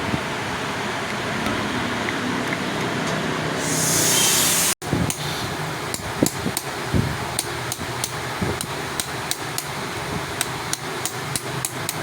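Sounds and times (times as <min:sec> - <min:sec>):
steady fan hum: 0:00.0 - 0:12.0.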